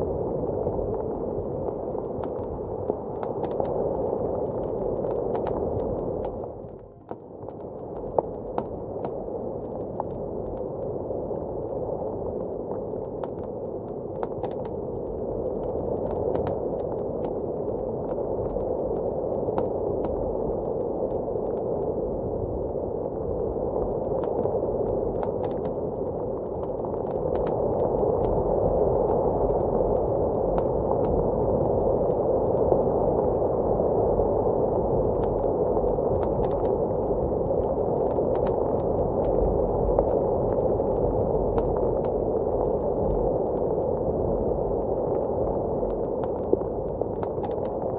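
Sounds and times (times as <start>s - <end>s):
muffled blizzard wind: 0.0s - 47.9s
wood fire crackling and popping: 0.1s - 47.9s.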